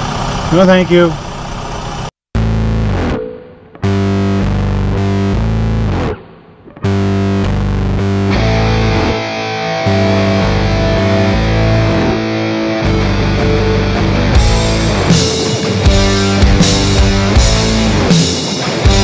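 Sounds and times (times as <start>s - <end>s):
rock music with distorted guitar: 2.4s - 19.0s.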